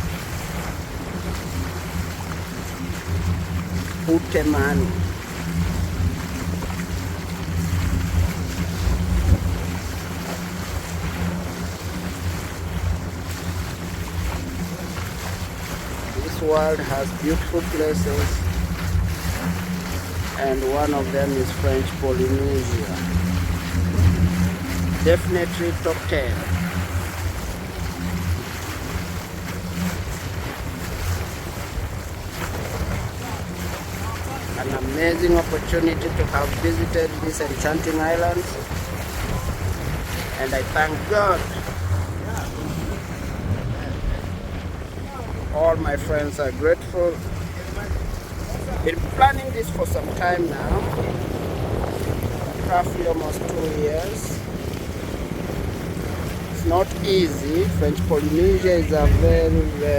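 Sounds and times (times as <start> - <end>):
steady low hum: 0.0 - 59.9
water rushing along hull: 0.0 - 59.9
wind buffeting microphone: 0.0 - 59.9.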